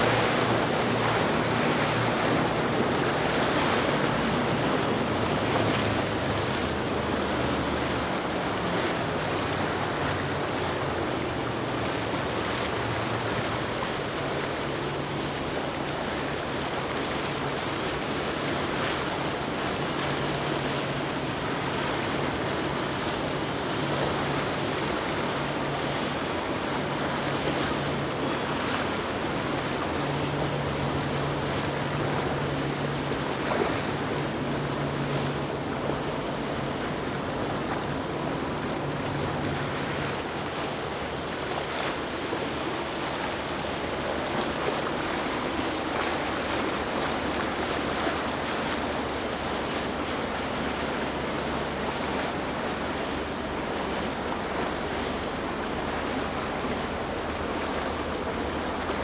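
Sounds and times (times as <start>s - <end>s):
low boat engine hum: 0.0s - 59.0s
waves and water rushing: 0.0s - 59.0s.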